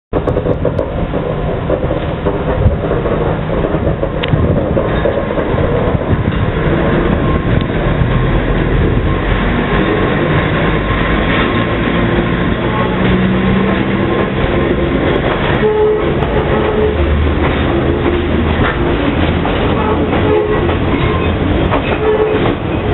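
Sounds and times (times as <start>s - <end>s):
train wheels rumbling on rails: 0.1s - 22.9s.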